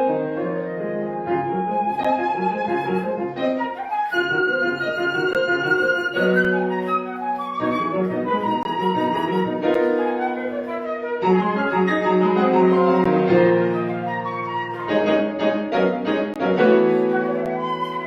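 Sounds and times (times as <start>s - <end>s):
flute melody: 0.0s - 18.0s
piano chords: 0.0s - 18.0s.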